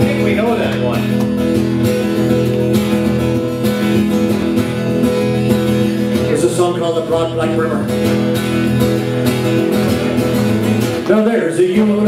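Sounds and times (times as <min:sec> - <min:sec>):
acoustic guitars strumming: 0:00.0 - 0:12.0.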